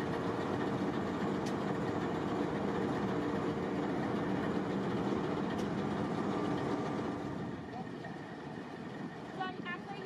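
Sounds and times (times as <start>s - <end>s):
diesel locomotive engines humming: 0.0s - 10.0s.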